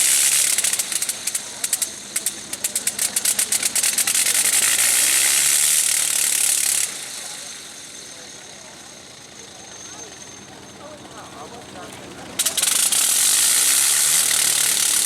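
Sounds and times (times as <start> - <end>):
engine exhaust beat: 0.0 - 15.0.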